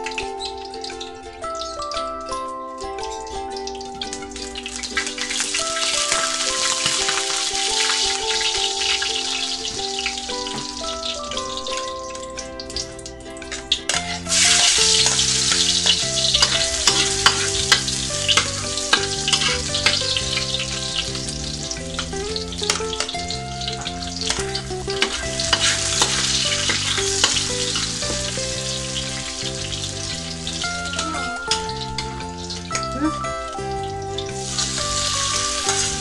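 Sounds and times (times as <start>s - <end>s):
garlic sizzling in oil: 3.0s - 36.0s.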